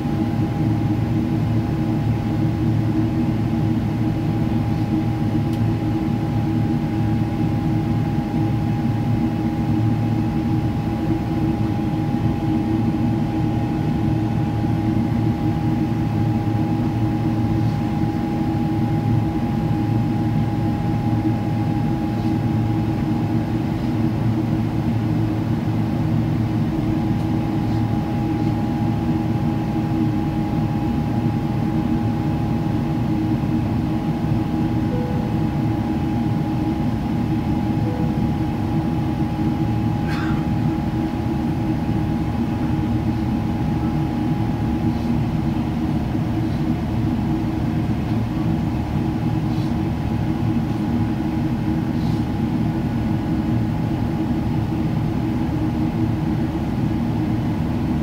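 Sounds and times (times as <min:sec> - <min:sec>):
jet engine rumble and whine: 0:00.0 - 0:58.0.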